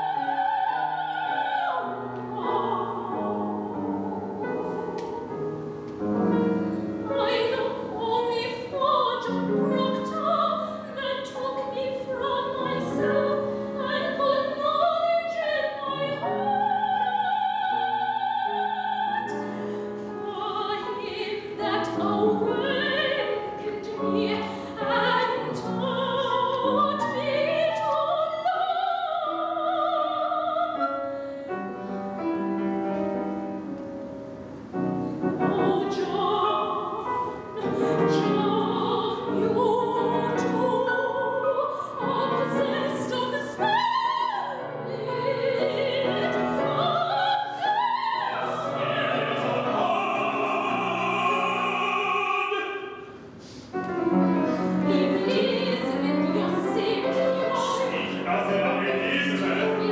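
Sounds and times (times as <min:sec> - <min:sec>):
operatic singing with vibrato: 0:00.0 - 0:32.0, 0:35.0 - 0:59.9
grand piano: 0:00.0 - 0:59.9.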